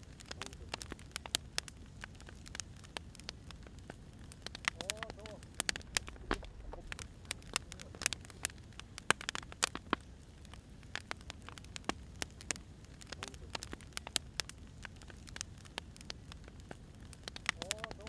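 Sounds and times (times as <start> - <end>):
low steady rumble: 0.0 - 17.7
firewood crackling and popping: 0.0 - 18.0.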